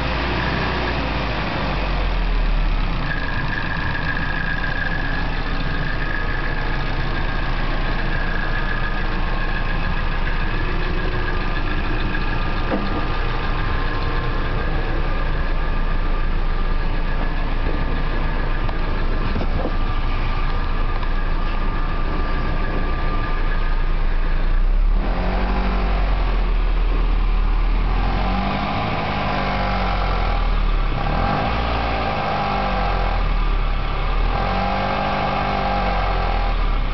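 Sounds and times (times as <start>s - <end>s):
car engine idling with ticking: 0.0s - 36.9s.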